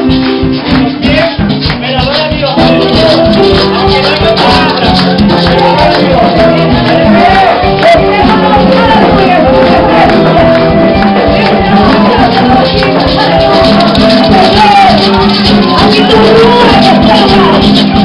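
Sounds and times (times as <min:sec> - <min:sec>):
conga drums: 0:00.0 - 0:18.0
maracas shaking: 0:00.0 - 0:18.0
group singing: 0:02.6 - 0:18.0.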